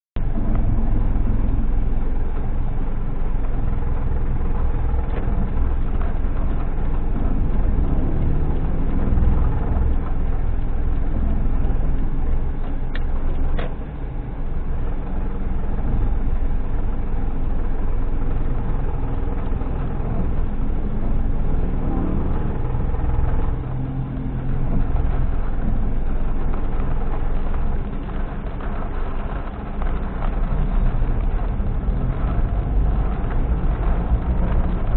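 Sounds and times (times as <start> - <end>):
car engine and road noise: 0.2 - 34.9.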